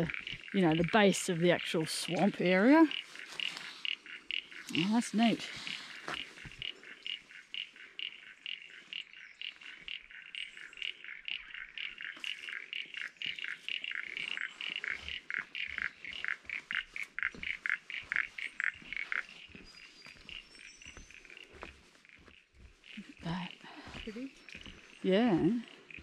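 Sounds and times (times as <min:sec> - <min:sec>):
frogs calling with clicking pulses: 0:00.0 - 0:26.0.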